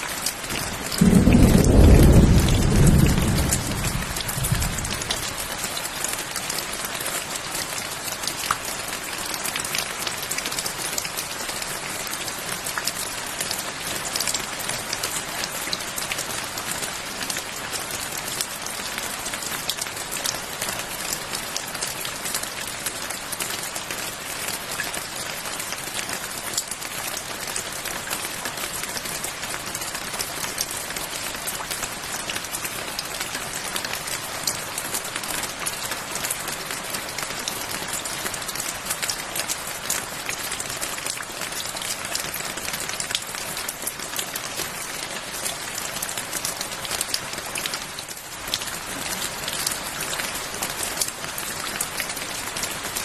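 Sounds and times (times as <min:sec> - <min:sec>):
rain drops pattering: 0:00.0 - 0:53.0.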